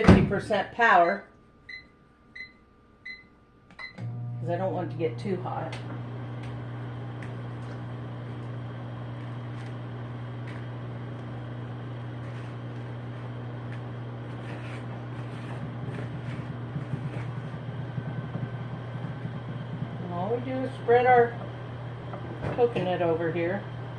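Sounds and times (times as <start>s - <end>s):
microwave oven humming: 0.0s - 23.9s.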